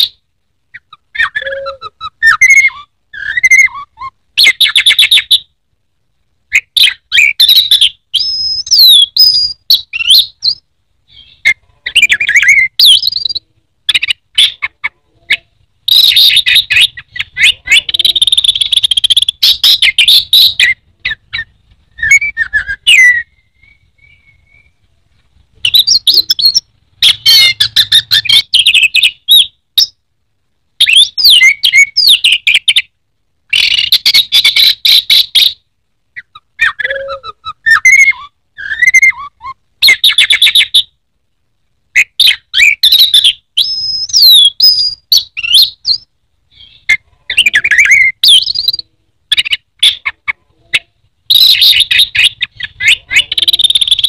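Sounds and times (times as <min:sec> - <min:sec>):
thrush singing whistled notes: 0:00.0 - 0:05.5, 0:06.5 - 0:24.8, 0:25.7 - 0:30.0, 0:30.8 - 0:35.6, 0:36.2 - 0:40.9, 0:42.0 - 0:50.2, 0:50.8 - 0:54.0.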